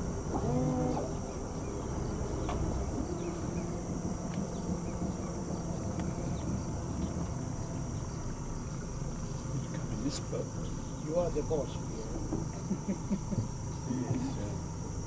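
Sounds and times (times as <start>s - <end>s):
high-pitched insect chorus: 0.0s - 15.0s
low background noise: 0.0s - 15.0s.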